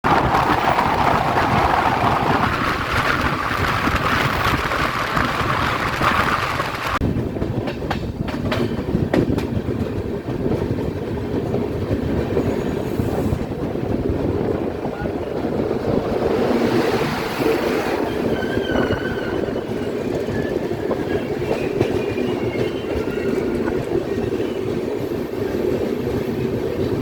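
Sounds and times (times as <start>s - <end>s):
train rolling rumble: 0.0s - 27.0s.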